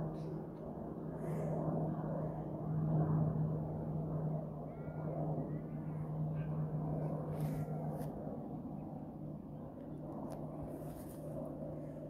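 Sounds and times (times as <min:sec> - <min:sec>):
distant propeller aircraft drone: 0:00.0 - 0:12.0.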